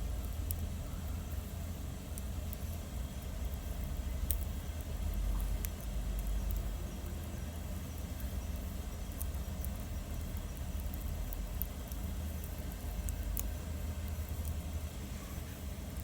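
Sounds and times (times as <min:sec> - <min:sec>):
bonfire crackles and pops: 0:00.0 - 0:15.0
low fire rumble: 0:00.0 - 0:16.0.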